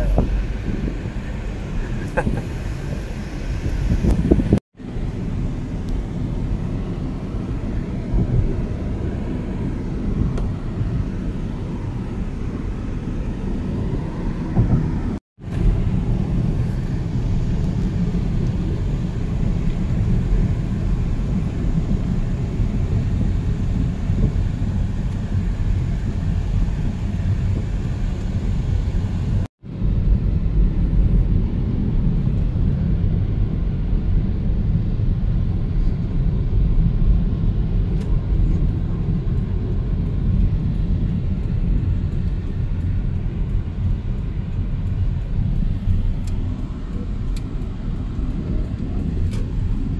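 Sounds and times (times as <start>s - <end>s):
vehicle engine and road noise: 0.0s - 49.9s.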